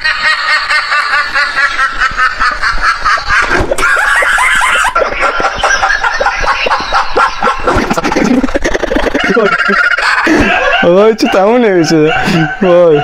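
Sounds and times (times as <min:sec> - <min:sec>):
rapid laugh-like cackling: 0:00.0 - 0:13.0.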